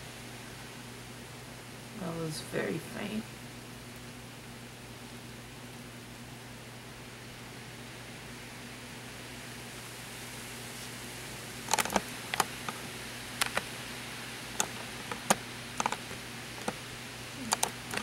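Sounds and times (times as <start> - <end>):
faint low hum: 0.0 - 18.0
steady hiss: 0.0 - 18.0.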